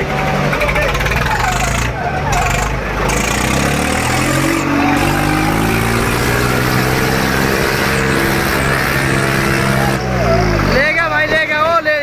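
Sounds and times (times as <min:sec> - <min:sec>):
tractor diesel engines straining: 0:00.0 - 0:12.0.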